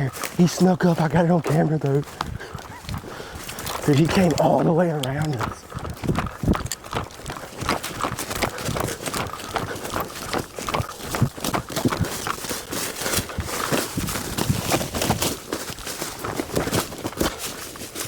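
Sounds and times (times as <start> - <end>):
rustling and crunching: 0.0 - 18.0.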